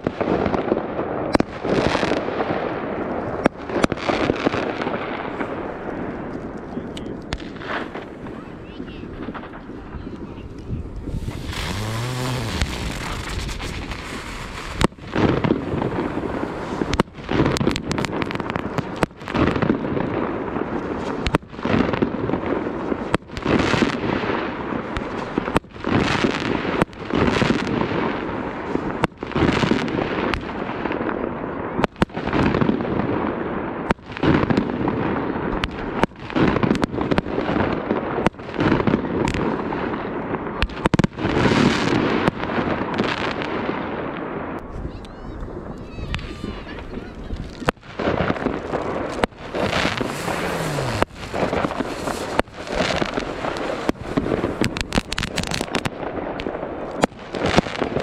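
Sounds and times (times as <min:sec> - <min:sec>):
fireworks bangs: 0:00.0 - 0:58.0.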